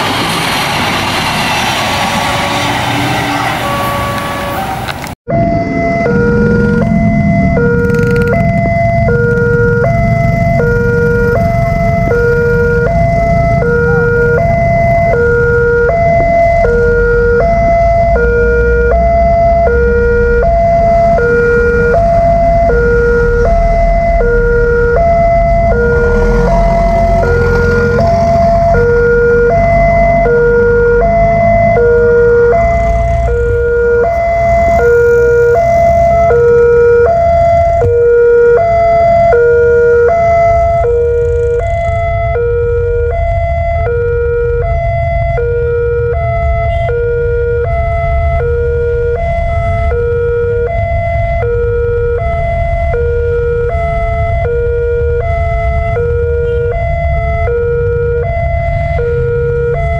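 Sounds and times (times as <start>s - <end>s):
road traffic rumble: 0.0s - 59.9s
two-tone warning alarm: 2.2s - 59.9s.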